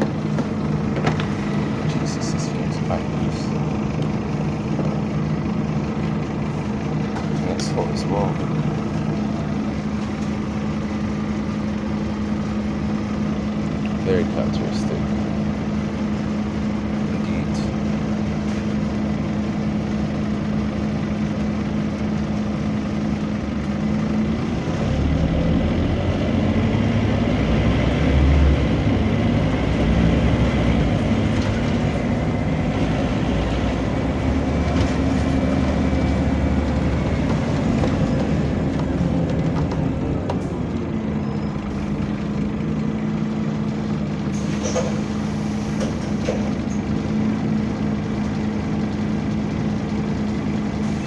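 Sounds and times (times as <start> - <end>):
bus engine hum: 0.0 - 51.0.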